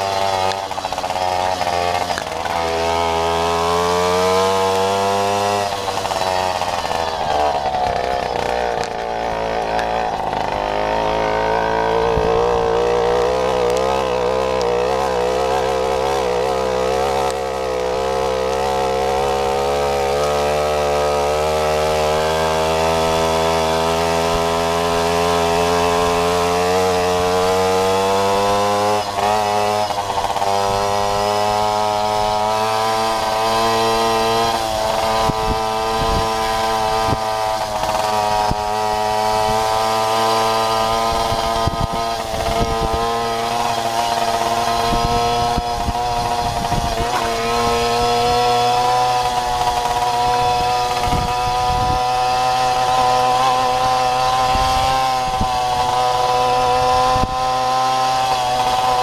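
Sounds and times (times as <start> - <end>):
moped two-stroke engine running: 0.0 - 59.0.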